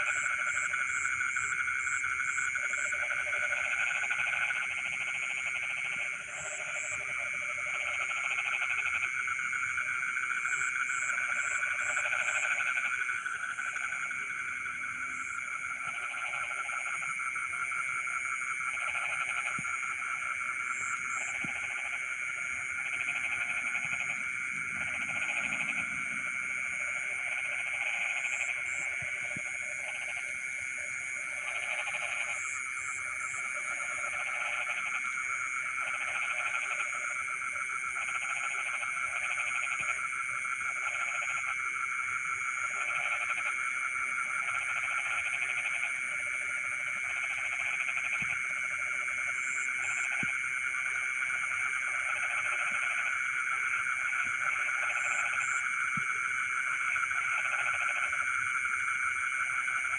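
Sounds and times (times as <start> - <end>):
frogs croaking: 0.0 - 59.9
high trilling frog chorus: 0.0 - 59.9.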